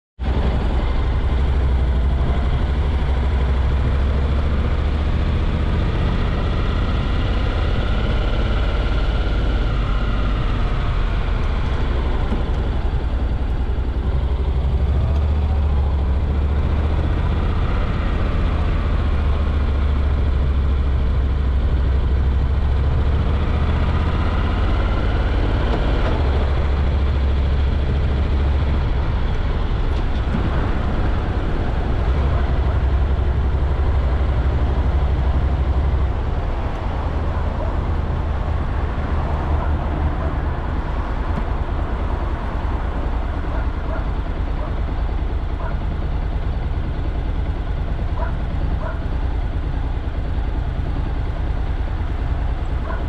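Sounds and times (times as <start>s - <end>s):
vehicle engine rumble: 0.2s - 53.0s.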